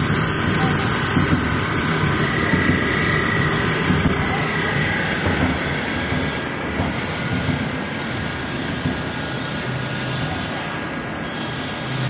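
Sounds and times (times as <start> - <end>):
machine drone: 0.0 - 12.0.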